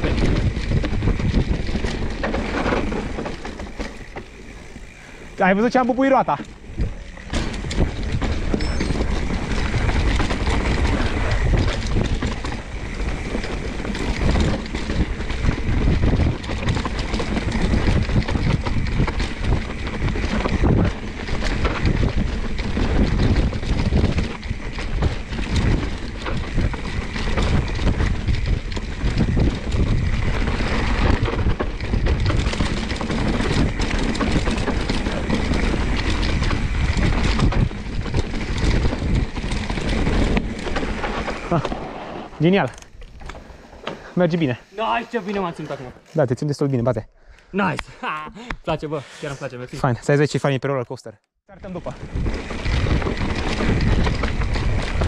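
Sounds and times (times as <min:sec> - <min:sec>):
wind rumbling on microphone: 0:00.0 - 0:43.8, 0:51.5 - 0:55.0
bike knocking and rattling: 0:00.0 - 0:47.0, 0:51.6 - 0:55.0.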